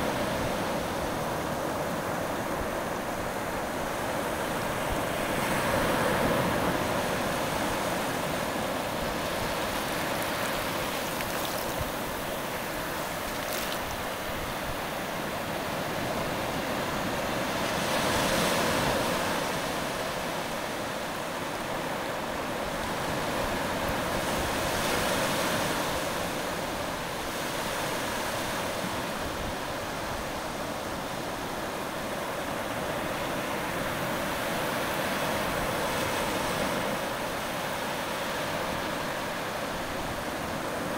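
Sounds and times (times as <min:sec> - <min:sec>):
ocean surf on sandy beach: 0:00.0 - 0:40.9.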